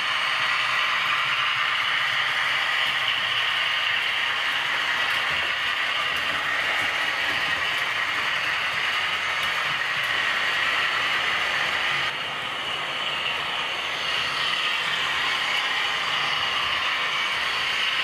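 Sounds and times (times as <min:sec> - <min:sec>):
model locomotive hiss and whir: 0:00.0 - 0:18.0.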